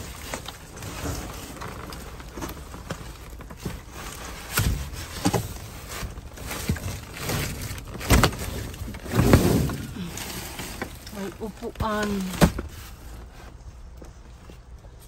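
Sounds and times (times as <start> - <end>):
plastic crinkling: 0.0 - 13.9.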